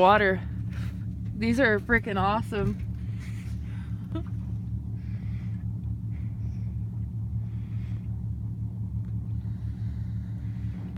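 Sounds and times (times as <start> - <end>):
boat motor idling: 0.0 - 10.9.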